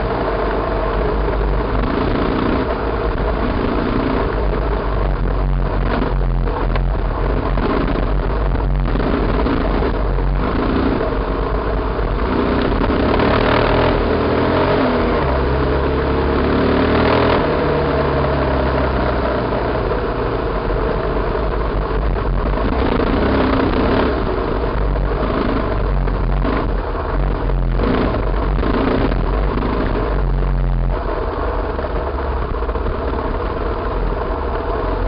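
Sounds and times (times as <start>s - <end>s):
wind rushing over microphone: 0.0s - 16.6s, 19.2s - 35.0s
motorcycle engine revving: 0.0s - 35.0s.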